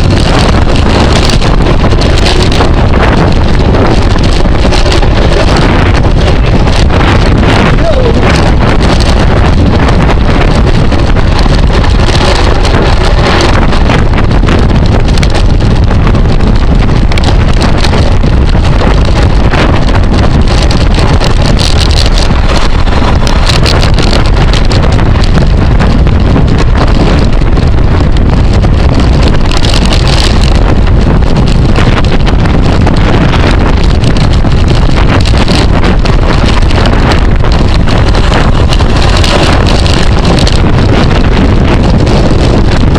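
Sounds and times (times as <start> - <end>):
wind rush on microphone: 0.0 - 42.9.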